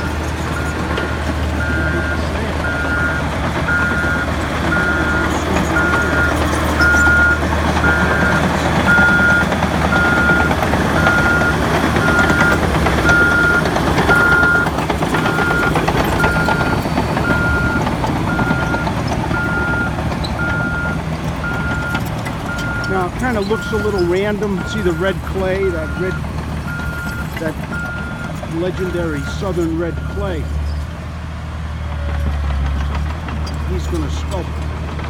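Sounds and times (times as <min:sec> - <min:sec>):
higher reversing alarm beeping: 0:00.0 - 0:30.5
reversing alarm beeping: 0:00.0 - 0:30.6
bulldozer diesel engines and tracks: 0:00.0 - 0:35.0.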